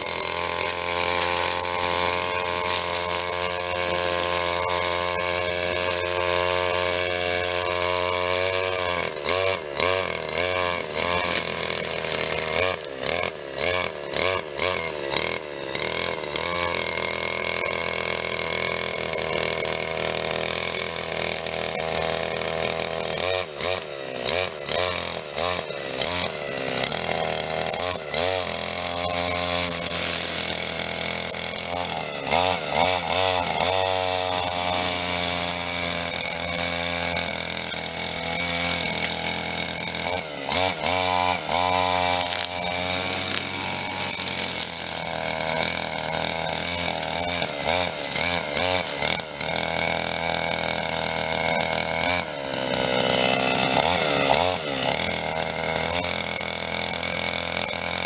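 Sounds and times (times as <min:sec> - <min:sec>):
brush cutter engine cutting grass: 0:00.0 - 0:58.0.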